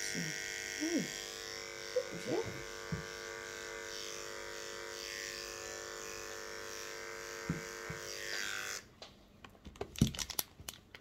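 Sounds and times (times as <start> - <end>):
electric hair clipper humming: 0.0 - 8.9.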